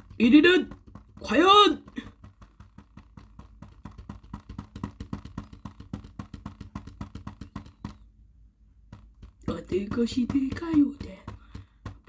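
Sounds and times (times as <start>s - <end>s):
rapid even tapping: 0.0s - 12.0s.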